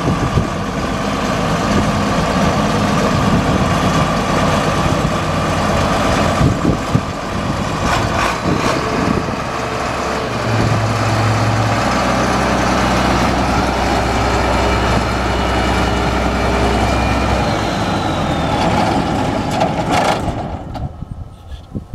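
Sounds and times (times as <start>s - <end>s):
tractor diesel engine running: 0.0s - 21.8s.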